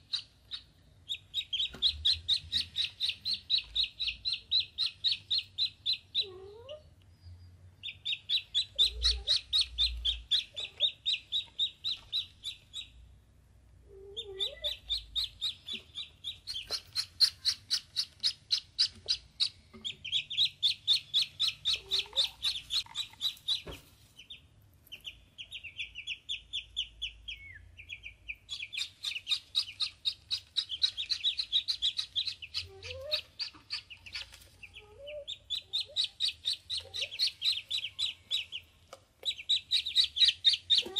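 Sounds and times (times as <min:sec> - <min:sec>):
ducklings peeping: 0:00.0 - 0:13.1, 0:14.0 - 0:40.9.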